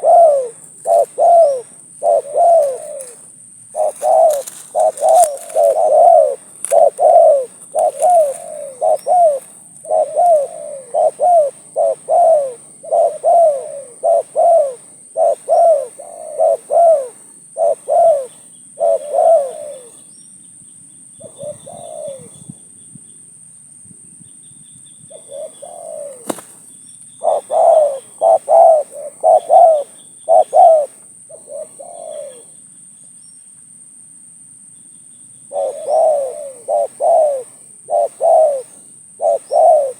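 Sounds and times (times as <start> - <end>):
dove cooing: 0.0 - 20.1, 21.2 - 22.6, 25.1 - 26.6, 27.2 - 32.6, 35.4 - 39.9.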